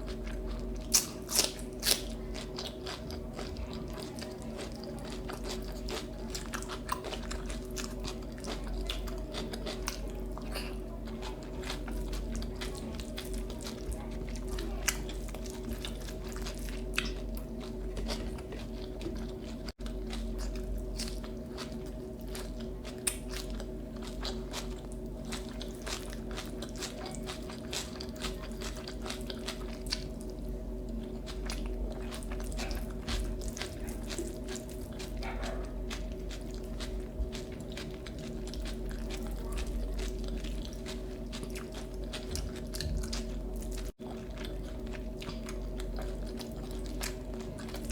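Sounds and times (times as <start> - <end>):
food being bitten and chewed: 0.0 - 47.9
steady low hum: 0.0 - 47.9.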